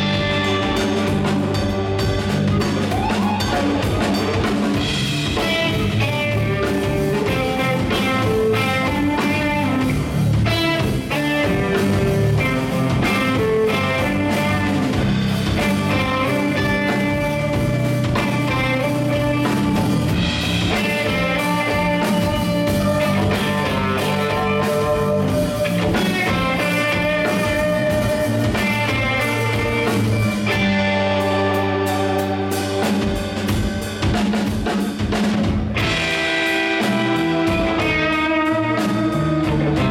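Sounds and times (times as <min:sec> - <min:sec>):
bass guitar: 0:00.0 - 0:39.9
drum kit: 0:00.0 - 0:39.9
electric guitars: 0:00.0 - 0:39.9.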